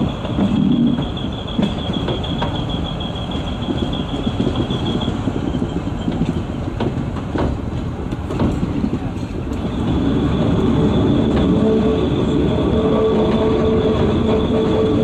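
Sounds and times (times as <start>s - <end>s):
wheel flange squeal: 0.0s - 6.8s, 9.6s - 15.0s
train wheels rumbling on rails: 0.0s - 15.0s.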